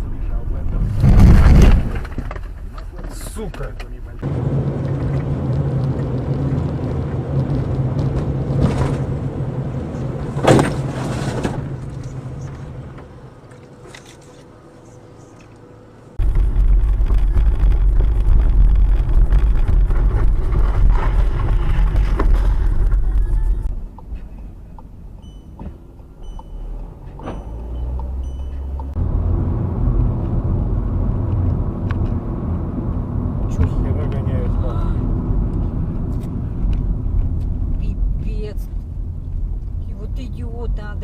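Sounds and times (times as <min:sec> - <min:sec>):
car engine and road noise: 0:00.0 - 0:41.0
deep road rumble: 0:00.0 - 0:41.0.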